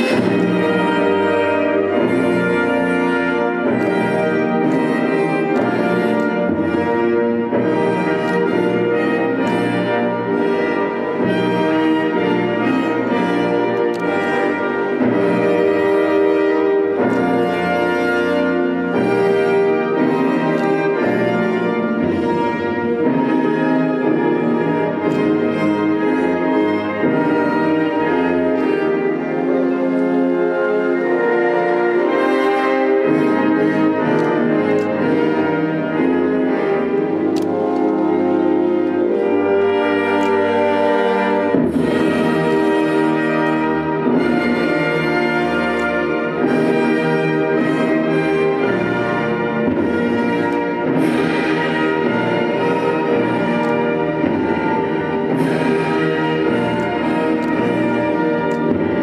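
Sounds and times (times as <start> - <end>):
orchestral brass chords: 0.0 - 59.0.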